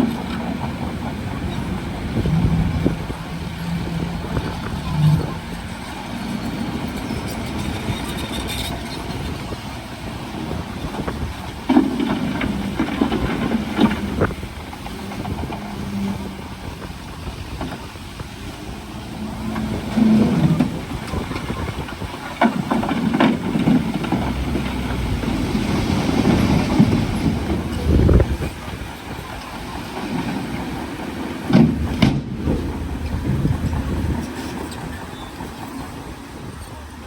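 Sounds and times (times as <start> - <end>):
bulldozer diesel engine under load: 0.0 - 37.0
steel tracks clanking: 0.0 - 37.0.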